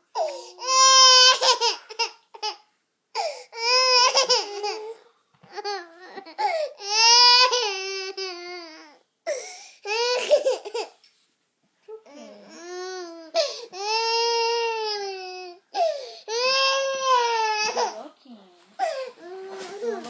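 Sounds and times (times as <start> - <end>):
toddler crying: 0.1 - 2.6, 3.2 - 11.0, 12.0 - 18.0, 18.8 - 20.0.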